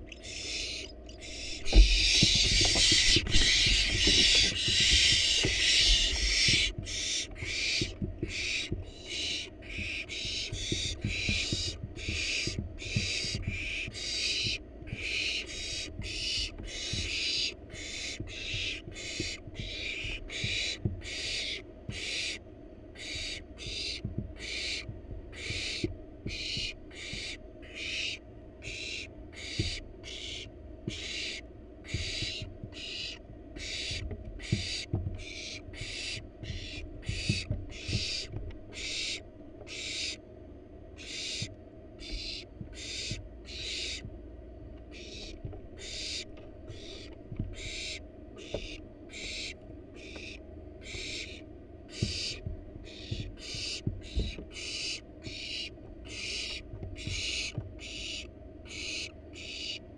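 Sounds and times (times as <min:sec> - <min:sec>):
owl nestlings hissing: 0:00.0 - 0:22.4, 0:23.0 - 0:40.2, 0:41.0 - 0:44.1, 0:44.9 - 0:59.8.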